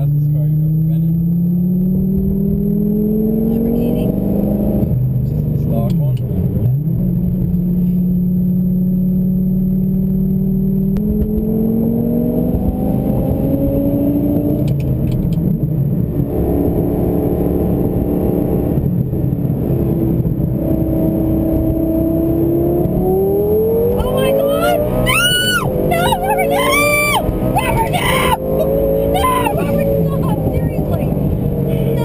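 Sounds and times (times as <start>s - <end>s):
car engine from inside cabin: 0.0s - 32.0s.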